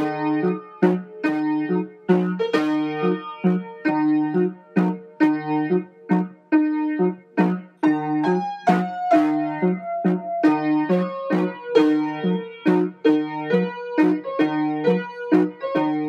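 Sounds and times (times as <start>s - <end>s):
bouncy keyboard music: 0.0s - 16.0s.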